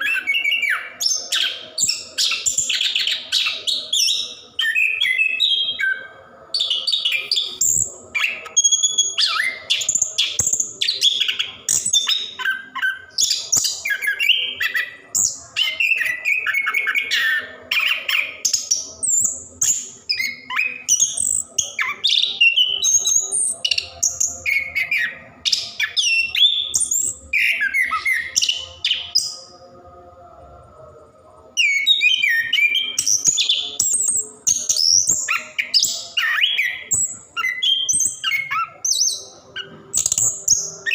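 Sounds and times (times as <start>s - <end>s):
thrush singing: 0.0s - 40.9s.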